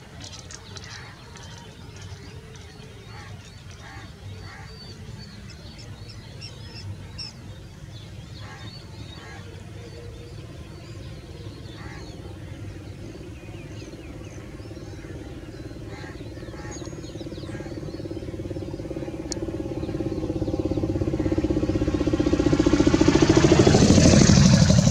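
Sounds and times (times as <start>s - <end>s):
vehicle engine approaching: 0.0s - 24.9s.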